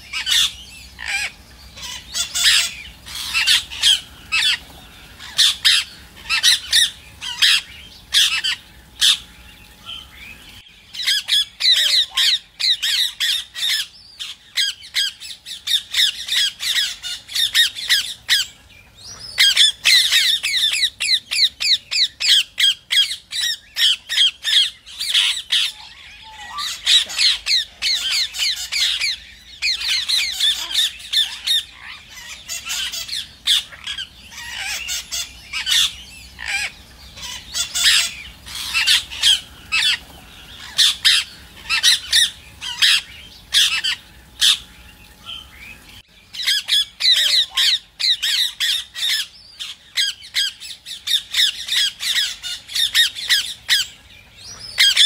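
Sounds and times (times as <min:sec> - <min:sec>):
parakeet squawking: 0:00.1 - 0:04.6, 0:05.2 - 0:10.1, 0:10.9 - 0:18.5, 0:19.2 - 0:40.0, 0:40.6 - 0:44.7, 0:46.3 - 0:55.0.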